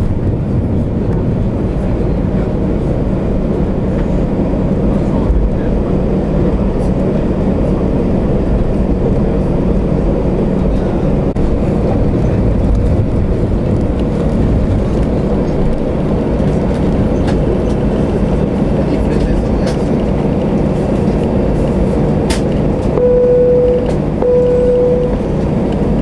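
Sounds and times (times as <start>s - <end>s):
jet engines at take-off power: 0.0s - 26.0s
wheels rumbling on runway: 0.0s - 26.0s.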